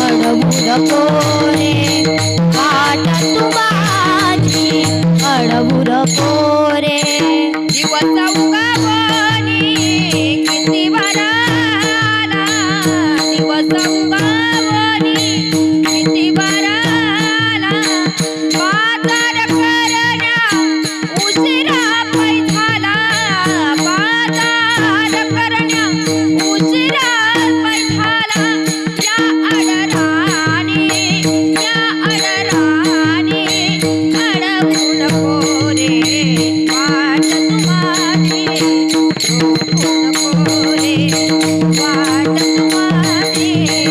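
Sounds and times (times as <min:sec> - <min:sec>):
jingling hand cymbals: 0:00.0 - 0:43.9.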